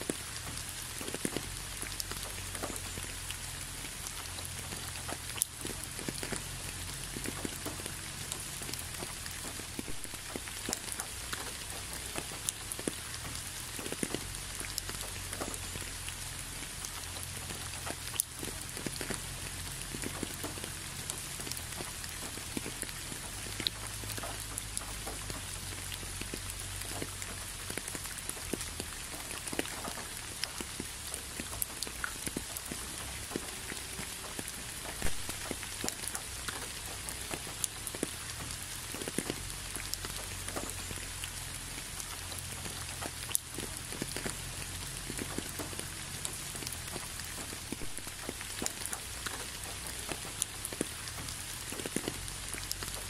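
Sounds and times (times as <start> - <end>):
raindrops ticking: 0.0 - 53.0
steady rain hiss: 0.0 - 53.0.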